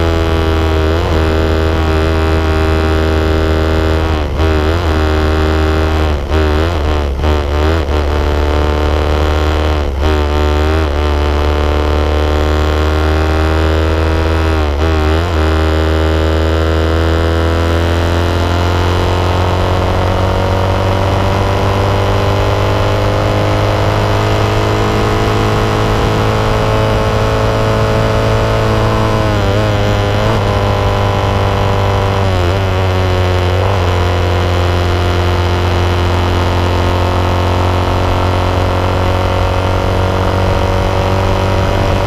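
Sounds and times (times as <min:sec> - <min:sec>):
motorcycle engine running hard: 0:00.0 - 0:42.0.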